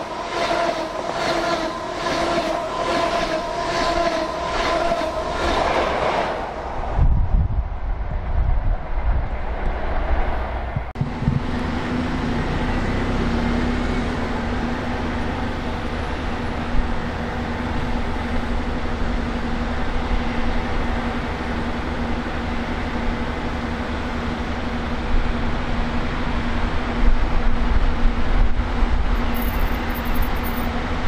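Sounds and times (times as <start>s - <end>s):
diesel train engine rumble: 0.0s - 31.0s.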